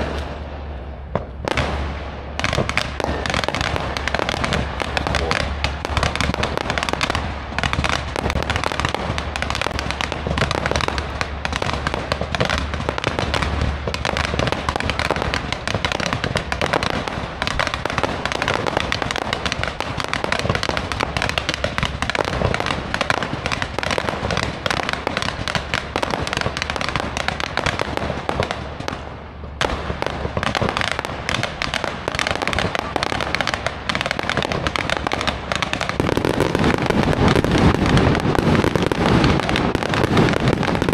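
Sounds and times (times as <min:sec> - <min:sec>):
fireworks bangs and crackle: 0:00.0 - 0:40.9.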